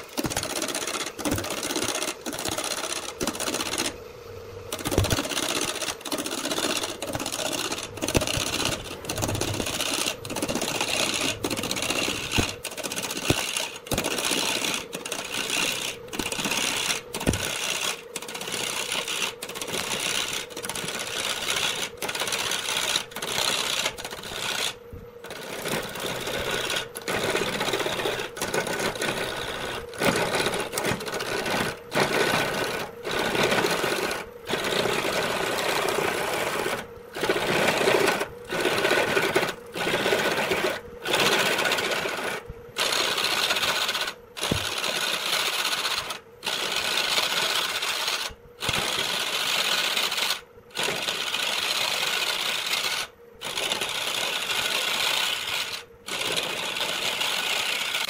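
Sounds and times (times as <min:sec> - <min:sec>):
turning tool cutting wood: 0:00.0 - 0:04.0, 0:04.7 - 0:58.0
lathe humming: 0:00.0 - 0:58.0.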